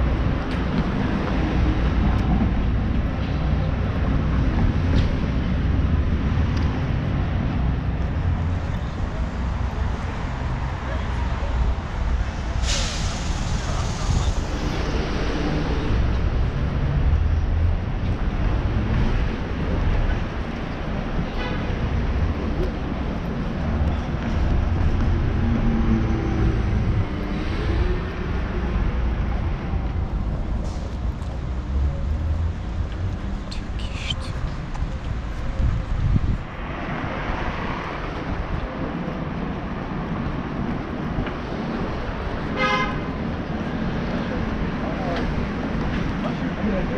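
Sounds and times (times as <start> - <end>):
low rumble of street traffic: 0.0 - 46.9.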